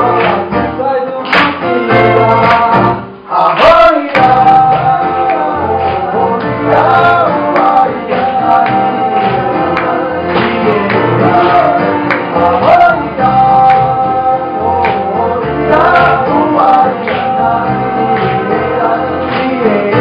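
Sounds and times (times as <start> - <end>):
acoustic guitar strumming: 0.0 - 20.0
man singing lead: 0.0 - 20.0
second man singing along: 0.0 - 20.0.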